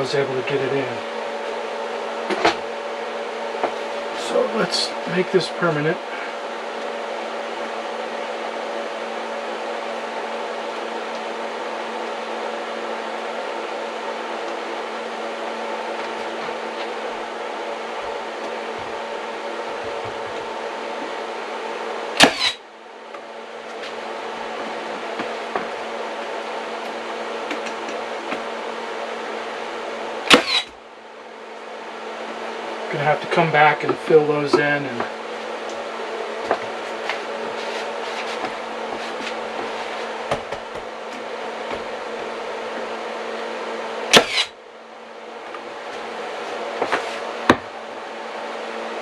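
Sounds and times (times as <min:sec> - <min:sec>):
machine hum: 0:00.0 - 0:49.0.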